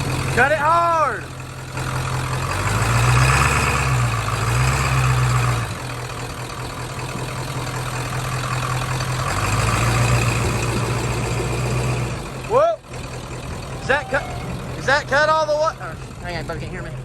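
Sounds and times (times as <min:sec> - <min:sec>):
pickup engine idling: 0:00.0 - 0:17.0.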